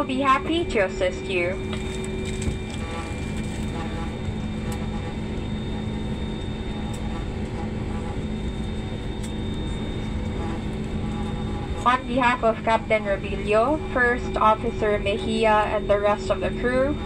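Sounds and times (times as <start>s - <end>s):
high engine whines: 0.0s - 17.0s
jet engines rumbling: 0.0s - 17.0s.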